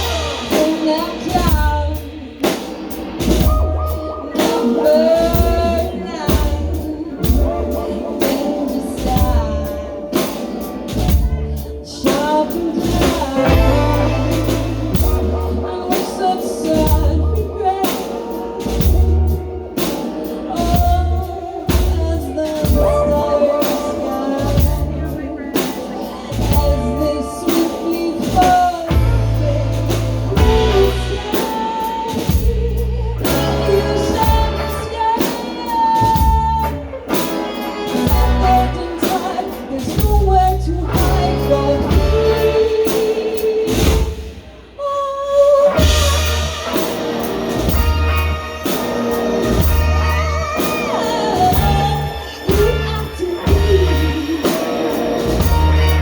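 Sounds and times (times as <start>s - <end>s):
band music with singer: 0.0s - 56.0s.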